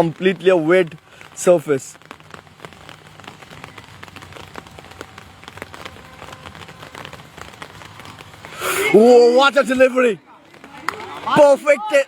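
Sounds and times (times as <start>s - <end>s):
rain falling: 0.0s - 12.0s
raindrops ticking on surface: 0.0s - 12.0s.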